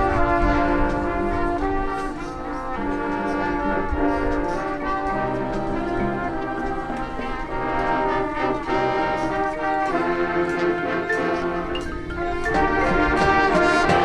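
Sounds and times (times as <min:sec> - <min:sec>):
brass section playing chords: 0:00.0 - 0:14.0
percussion strokes: 0:00.0 - 0:14.0.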